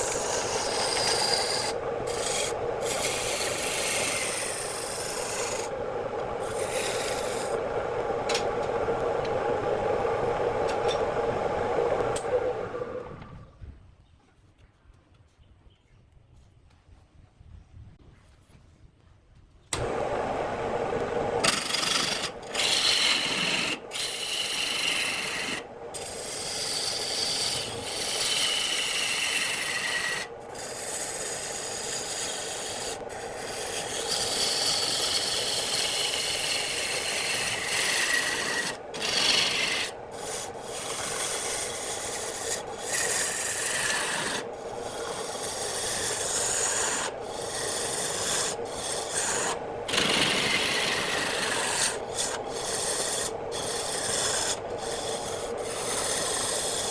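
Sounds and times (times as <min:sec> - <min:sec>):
lathe tool scraping wood: 0:00.0 - 0:13.4, 0:19.8 - 0:56.9.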